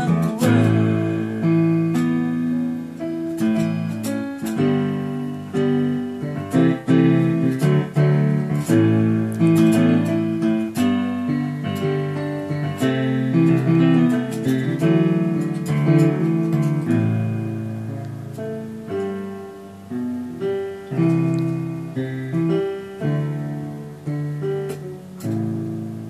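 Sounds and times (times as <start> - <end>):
electronic keyboard chords: 0.0 - 26.0.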